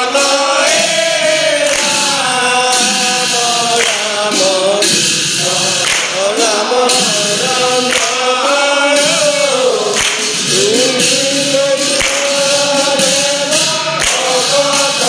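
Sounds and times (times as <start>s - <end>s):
men chanting a devotional song: 0.0s - 15.0s.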